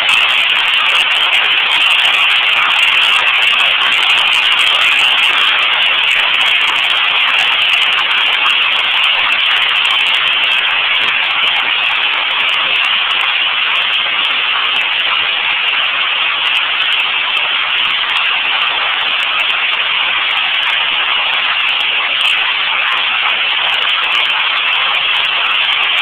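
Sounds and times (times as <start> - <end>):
hail and heavy rain pelting: 0.0 - 26.0.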